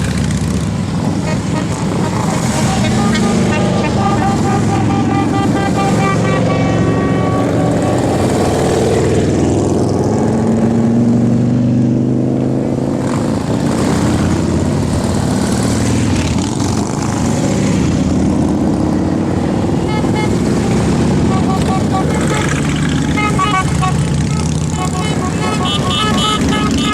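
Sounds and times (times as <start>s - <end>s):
motorcycle engines revving: 0.0s - 26.9s.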